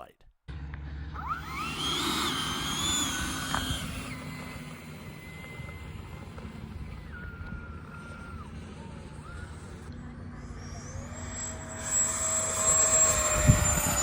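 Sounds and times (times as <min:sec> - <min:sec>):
electric ducted fan whine: 0:00.5 - 0:14.0.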